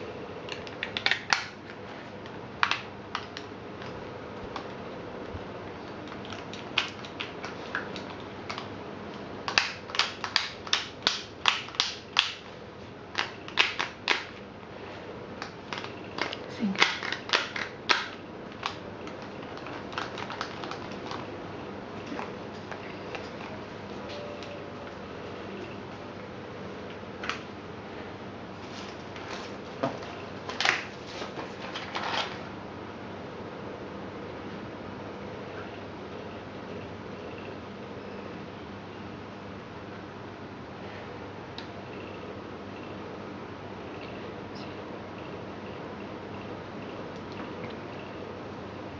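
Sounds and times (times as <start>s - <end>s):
steady background hiss: 0.0s - 48.9s.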